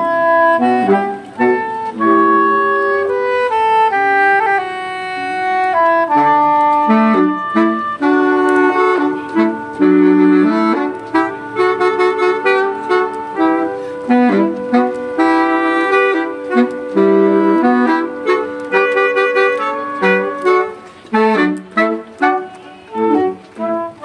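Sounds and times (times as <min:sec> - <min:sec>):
saxophone quartet playing: 0:00.0 - 0:24.0.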